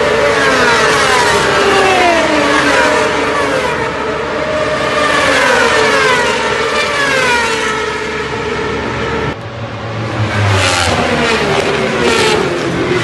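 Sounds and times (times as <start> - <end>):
racing motorcycles passing by: 0.0 - 13.0.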